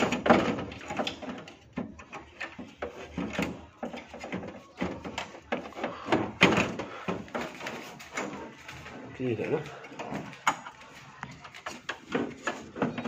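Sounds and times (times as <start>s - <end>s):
plastic knocks clicks and rattles: 0.0s - 13.0s.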